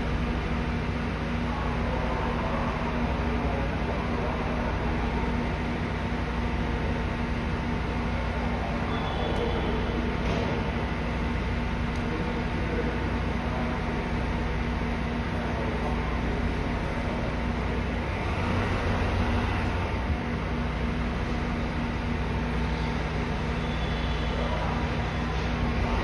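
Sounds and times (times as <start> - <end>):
diesel railcar engine drone: 0.0 - 26.0
rail noise: 0.0 - 26.0.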